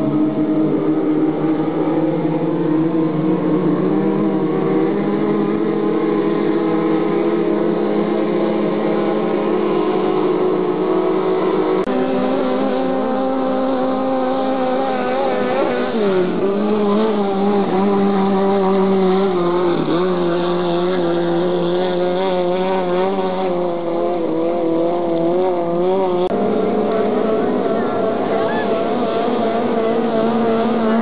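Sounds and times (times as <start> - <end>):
racing powerboat engines at high revs: 0.0 - 31.0.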